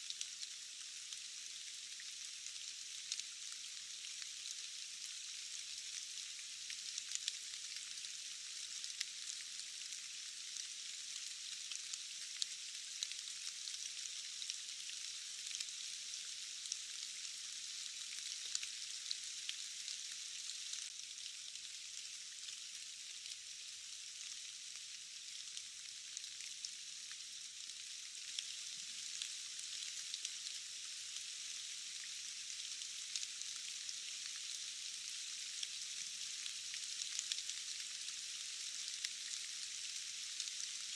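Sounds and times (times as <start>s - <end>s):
steady rain falling: 0.0s - 23.4s, 24.2s - 40.9s.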